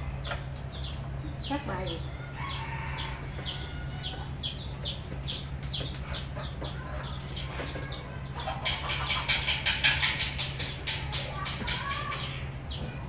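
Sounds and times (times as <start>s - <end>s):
small birds peeping: 0.0s - 13.0s
steady low hum: 0.0s - 13.0s.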